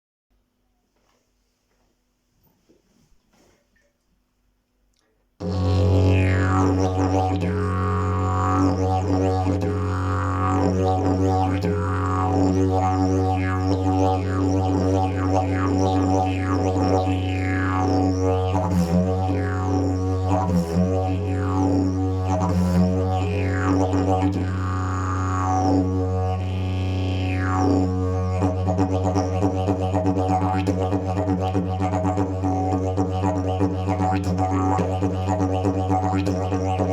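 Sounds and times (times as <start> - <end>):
didgeridoo drone: 5.4 - 36.9.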